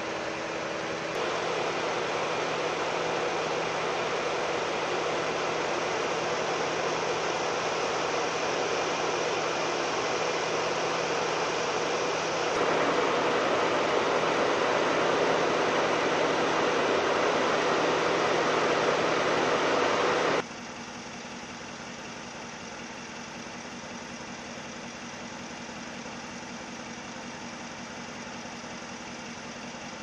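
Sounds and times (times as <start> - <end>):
vehicle hum with hiss: 0.0 - 30.0.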